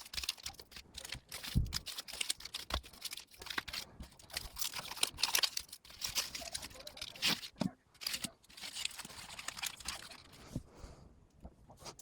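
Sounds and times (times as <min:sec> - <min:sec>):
plastic wrapping crinkling and tearing: 0:00.0 - 0:10.5.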